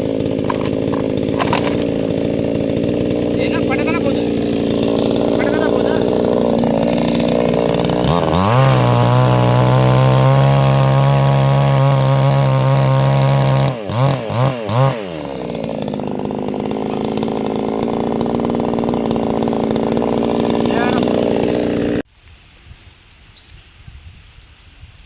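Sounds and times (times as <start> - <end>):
chainsaw engine revving: 0.0 - 22.1.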